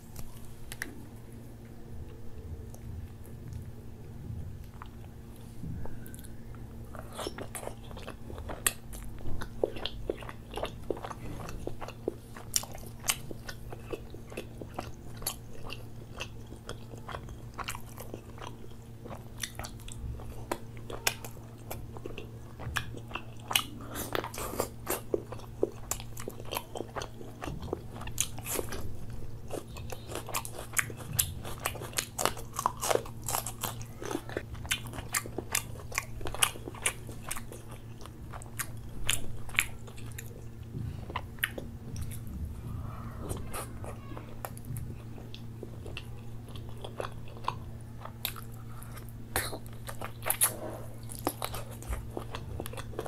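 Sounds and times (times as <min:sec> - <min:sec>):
steady low hum: 0:00.0 - 0:53.0
biting and chewing food: 0:04.3 - 0:53.0.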